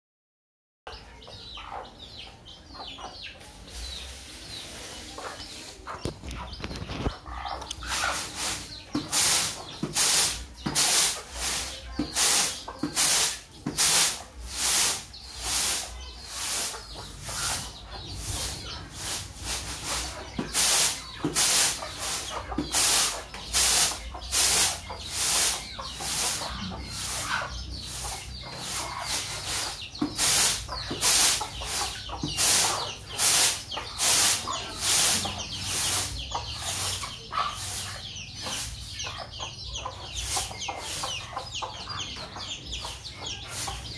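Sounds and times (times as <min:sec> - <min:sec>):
chickens pecking rice on concrete: 0:00.9 - 0:43.9
hens clucking: 0:00.9 - 0:43.9.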